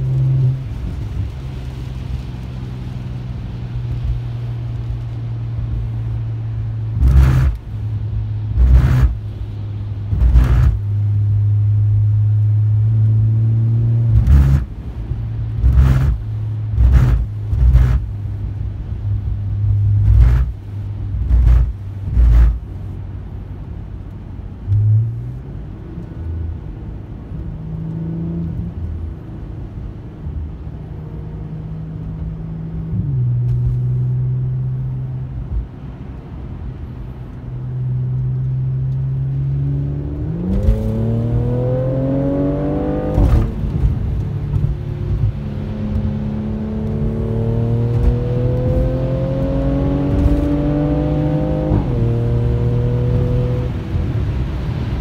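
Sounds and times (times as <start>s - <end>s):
engine revving under acceleration: 0.0s - 2.8s, 6.8s - 9.4s, 10.1s - 18.4s, 19.1s - 23.0s, 24.6s - 36.1s, 37.0s - 55.0s
car engine drone in cabin: 0.0s - 55.0s.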